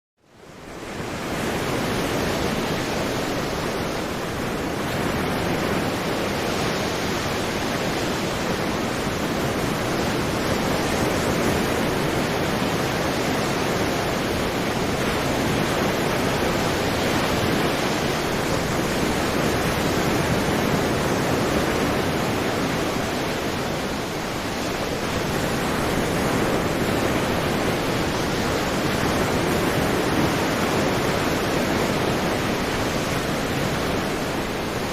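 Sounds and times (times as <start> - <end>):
sea waves breaking: 0.4 - 34.9.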